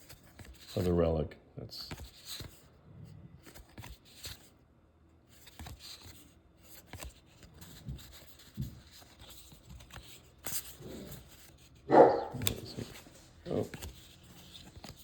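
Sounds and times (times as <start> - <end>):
trading cards rustling: 0.0 - 1.1, 1.8 - 2.7, 3.4 - 4.6, 5.3 - 15.0.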